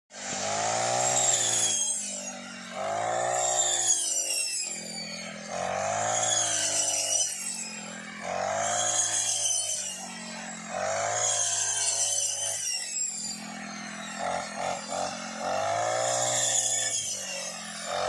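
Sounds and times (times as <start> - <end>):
brush cutter engine revving: 0.2 - 18.0.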